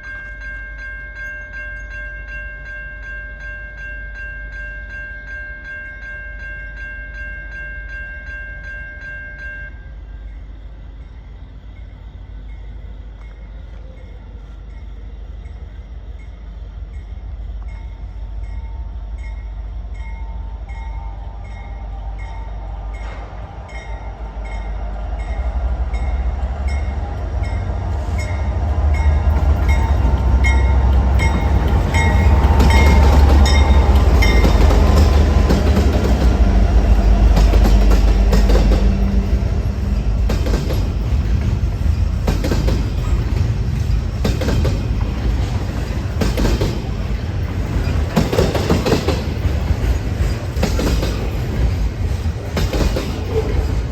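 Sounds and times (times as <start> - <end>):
regular clicking of train: 0.0 - 53.9
train rumbling: 0.0 - 53.9.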